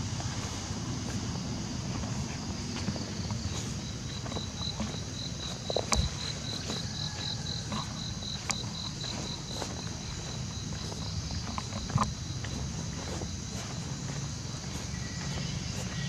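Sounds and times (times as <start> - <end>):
handheld walking rumble: 0.0 - 16.0
insect pulsed chirp: 0.0 - 16.0.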